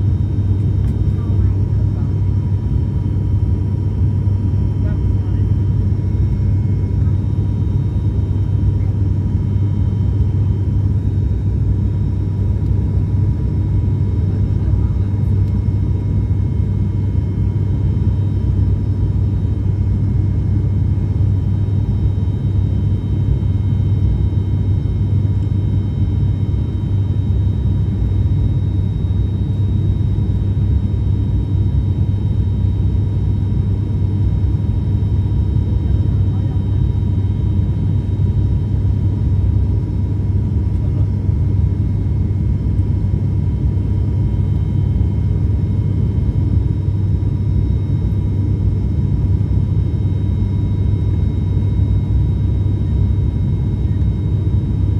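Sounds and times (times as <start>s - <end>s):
faint engine whine: 0.0s - 54.9s
turboprop cabin drone: 0.0s - 54.9s.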